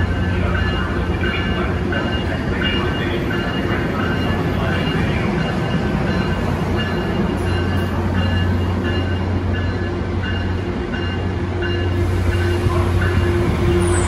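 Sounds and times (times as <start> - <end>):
train wheel and rail noise: 0.0 - 14.0.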